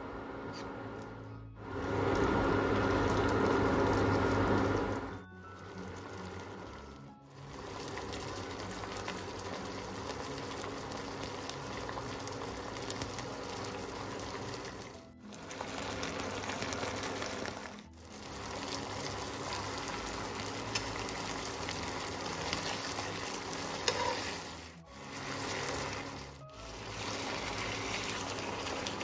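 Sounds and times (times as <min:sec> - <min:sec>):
fish sizzling in a frying pan: 0:01.9 - 0:29.0.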